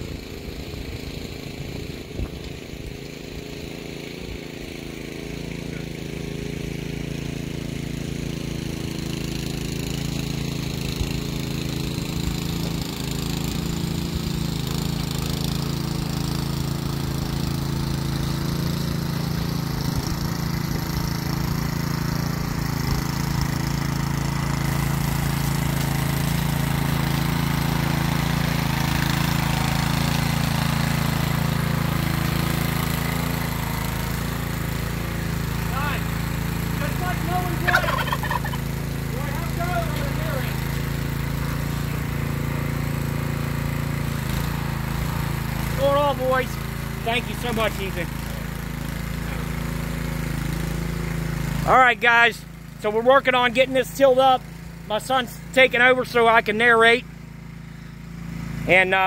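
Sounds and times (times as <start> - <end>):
rototiller engine running: 0.0 - 59.0.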